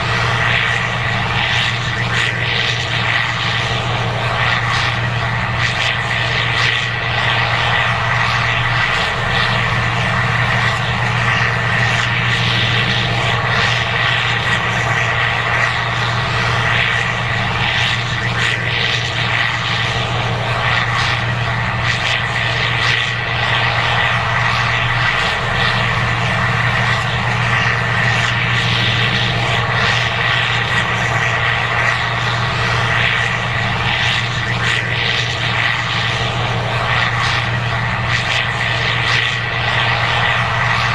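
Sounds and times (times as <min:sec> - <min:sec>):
diesel engine drone: 0:00.0 - 0:40.9
high whine: 0:00.0 - 0:40.9.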